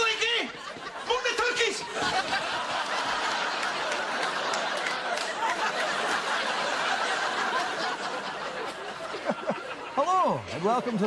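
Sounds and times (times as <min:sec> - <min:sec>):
audience laughing: 0:00.1 - 0:11.0.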